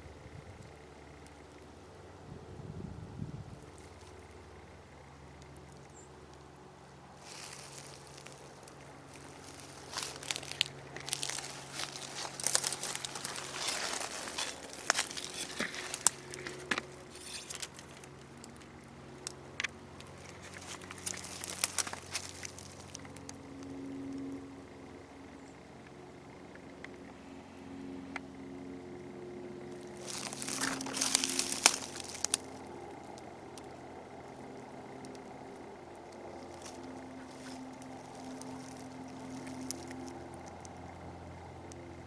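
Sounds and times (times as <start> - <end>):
faint low hum: 0.0 - 42.0
rustling and crackling with snaps: 7.1 - 27.1, 28.1 - 42.0.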